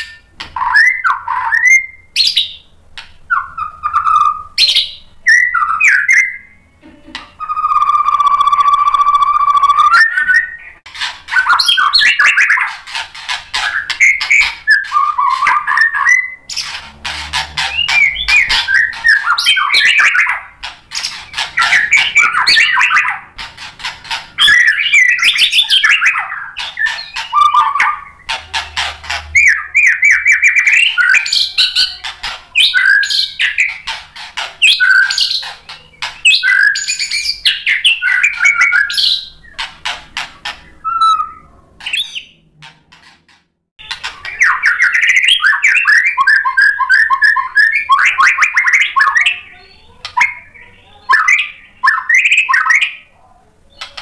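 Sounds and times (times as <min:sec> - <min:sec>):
bird singing: 0:00.0 - 0:54.0.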